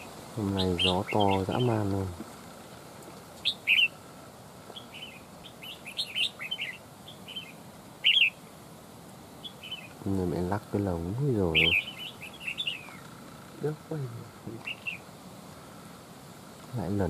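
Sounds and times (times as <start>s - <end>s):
bulbuls chirping: 0.0s - 17.0s.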